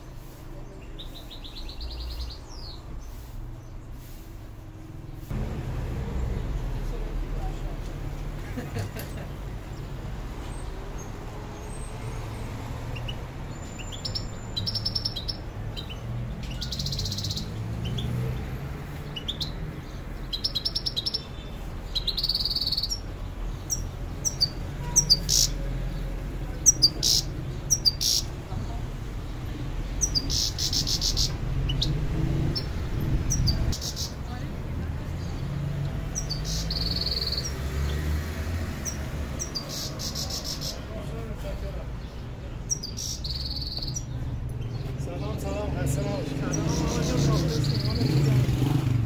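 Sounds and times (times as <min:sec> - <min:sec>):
street traffic hum: 0:00.0 - 0:49.0.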